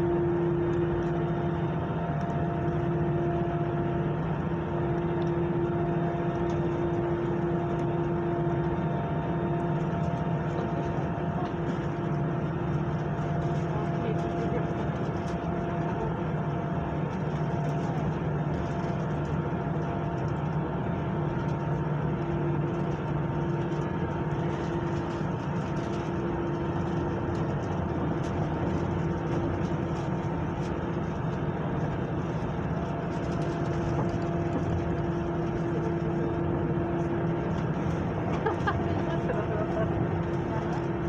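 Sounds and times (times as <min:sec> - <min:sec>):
airliner cabin drone: 0:00.0 - 0:41.0.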